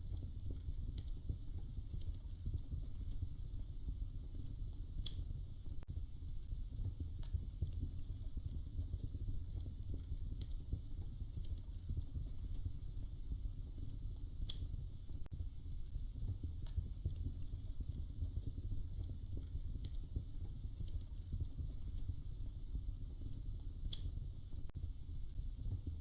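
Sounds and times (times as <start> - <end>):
fire crackles and pops: 0.0 - 26.0
fire flames rumbling: 0.0 - 26.0.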